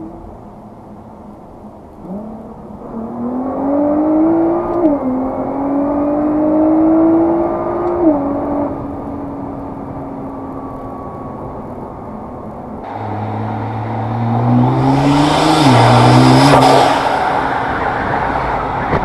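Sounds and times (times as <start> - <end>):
car engine accelerating: 1.9 - 19.0.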